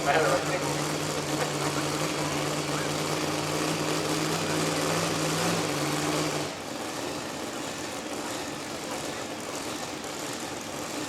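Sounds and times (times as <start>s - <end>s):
truck engine running at low revs: 0.0s - 11.0s.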